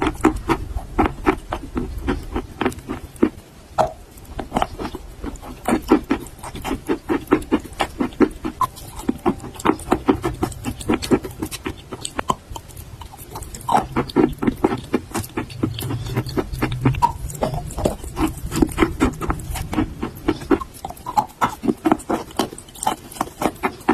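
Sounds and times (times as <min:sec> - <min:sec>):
chewing and crunching chalk: 0:00.0 - 0:23.9.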